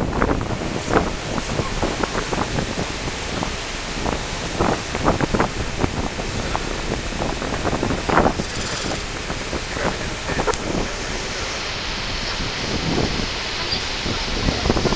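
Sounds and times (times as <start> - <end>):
water churning and splashing: 0.0 - 14.9
wind buffeting microphone: 0.0 - 14.9.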